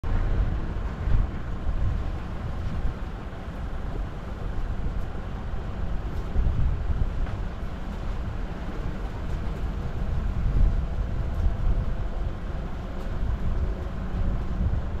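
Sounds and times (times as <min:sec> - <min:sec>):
vehicle engine and tyres rumbling: 0:00.0 - 0:15.0
wind buffeting microphone: 0:00.0 - 0:15.0.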